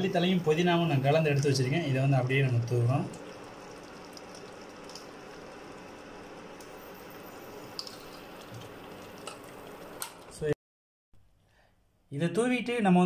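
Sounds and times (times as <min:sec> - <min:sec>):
pot bubbling hiss: 0:00.0 - 0:10.5.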